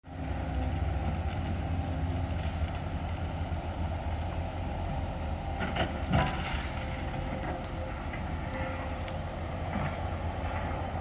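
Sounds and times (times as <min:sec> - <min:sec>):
backhoe engine humming: 0:00.0 - 0:11.0.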